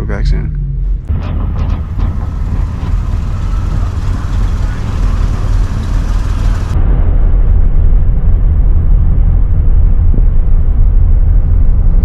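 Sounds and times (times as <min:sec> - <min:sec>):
van road and wind rumble: 0:00.0 - 0:12.0.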